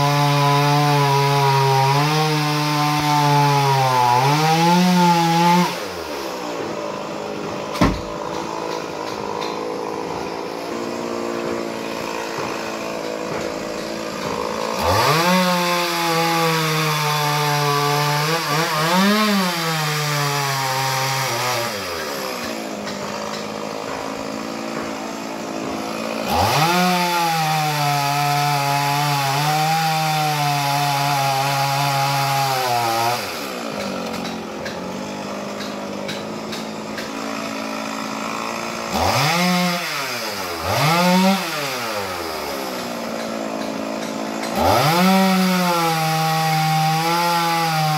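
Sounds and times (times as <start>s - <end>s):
chainsaw idling and revving: 0.0s - 47.9s.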